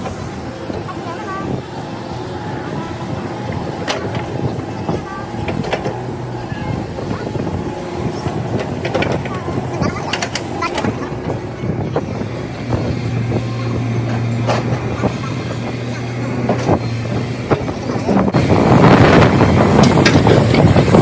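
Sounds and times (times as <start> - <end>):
excavator diesel engine humming: 0.0 - 21.0.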